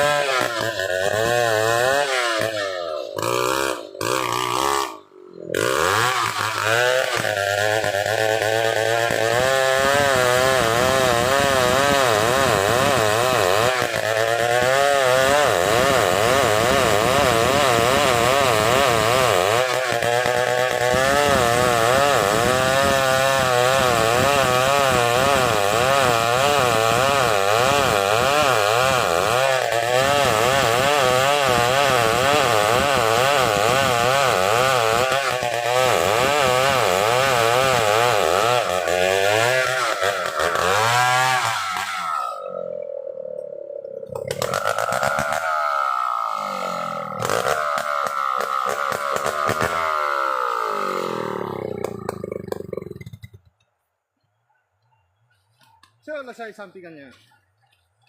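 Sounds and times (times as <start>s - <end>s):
chainsaw cutting a log: 0.0s - 53.5s.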